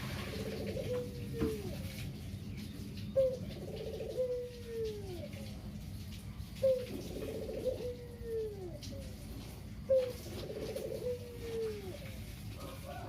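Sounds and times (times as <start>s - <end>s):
dove cooing: 0.0s - 2.2s, 3.0s - 5.7s, 6.5s - 13.0s.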